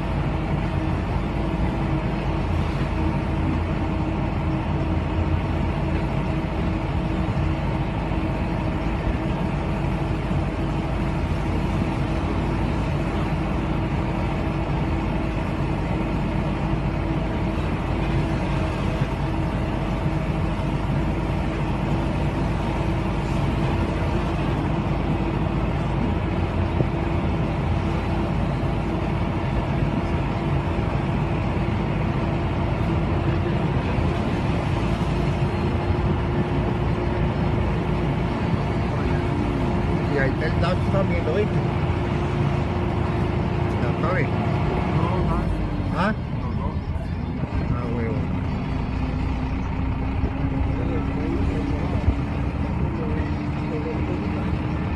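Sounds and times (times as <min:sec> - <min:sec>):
road and wind rumble: 0:00.0 - 0:54.9.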